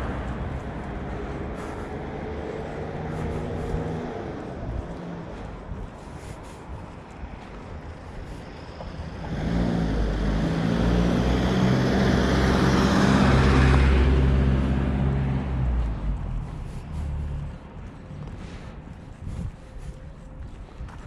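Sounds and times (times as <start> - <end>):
motor vehicle passing: 0.0 - 19.9.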